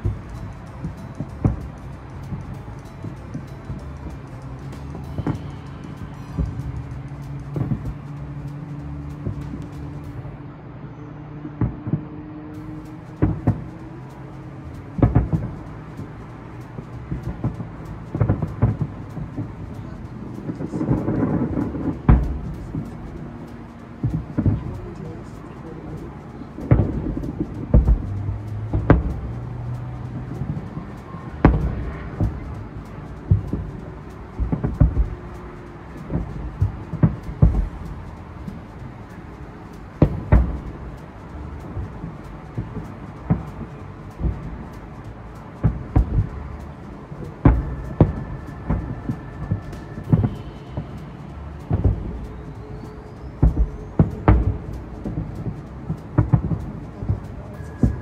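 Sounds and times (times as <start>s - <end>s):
distant fireworks booms: 0.0s - 10.2s, 11.6s - 58.0s.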